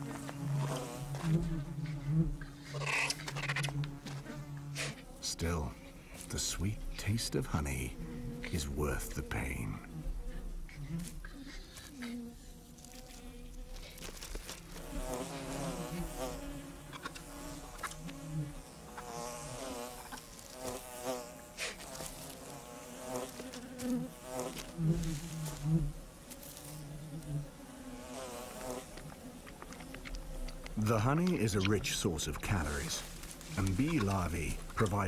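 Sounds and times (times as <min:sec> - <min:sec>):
honey bees buzzing: 0:00.0 - 0:35.0.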